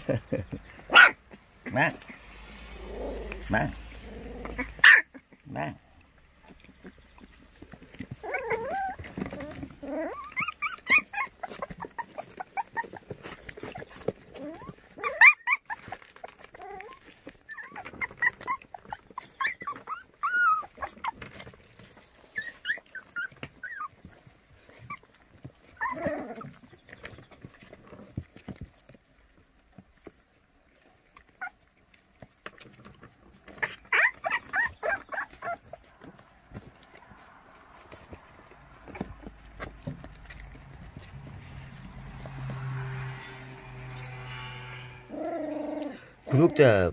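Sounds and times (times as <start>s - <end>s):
puppies scuffling and knocking: 0.0s - 44.7s
puppies whining and squealing: 0.1s - 46.9s.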